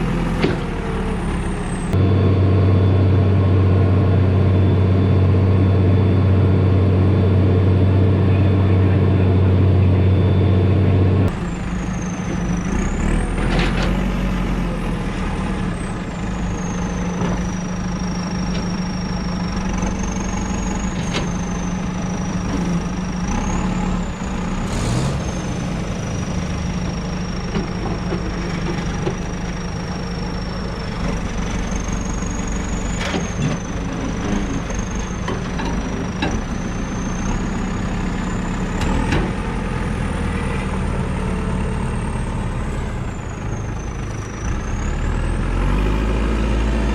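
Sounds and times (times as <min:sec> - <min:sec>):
engine with wavering whine: 0:00.0 - 0:46.9
tractor engine running: 0:00.0 - 0:46.9.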